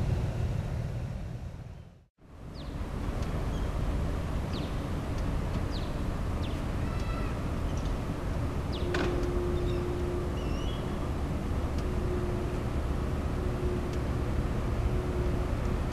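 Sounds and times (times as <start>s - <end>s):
ferry engines rumbling: 0.0s - 15.9s.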